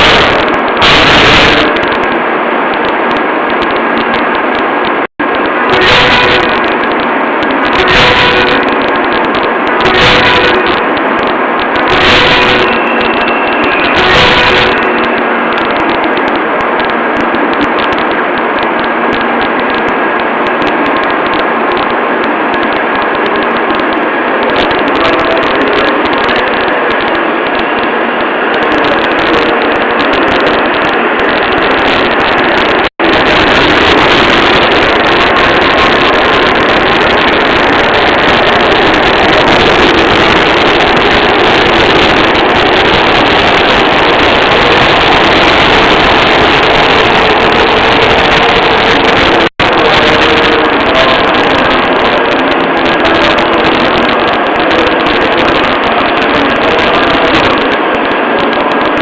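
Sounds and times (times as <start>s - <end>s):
train rushing roar: 0.0s - 59.0s.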